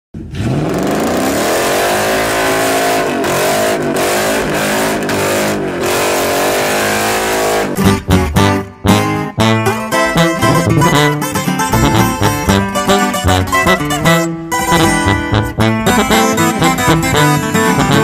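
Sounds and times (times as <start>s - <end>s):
truck engine revving high: 0.2s - 18.0s.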